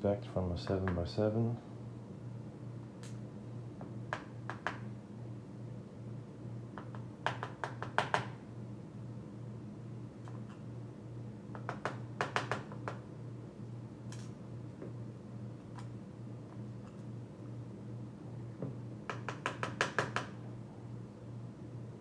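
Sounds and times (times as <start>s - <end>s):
steady low hum: 0.0s - 7.4s, 8.3s - 19.2s, 20.3s - 22.0s.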